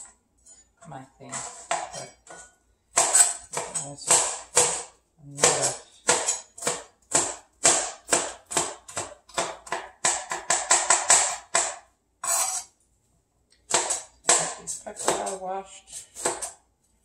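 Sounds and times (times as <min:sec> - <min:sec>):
knife chopping on cutting board: 0:01.3 - 0:12.6, 0:13.7 - 0:16.6.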